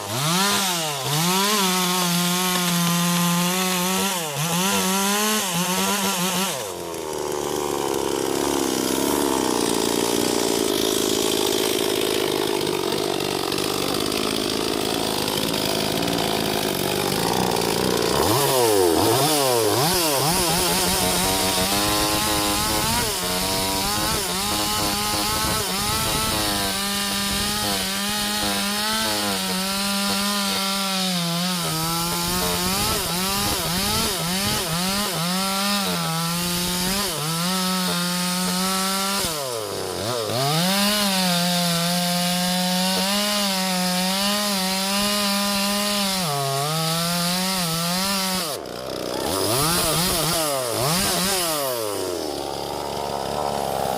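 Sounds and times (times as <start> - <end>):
chainsaws cutting wood: 0.0 - 53.9.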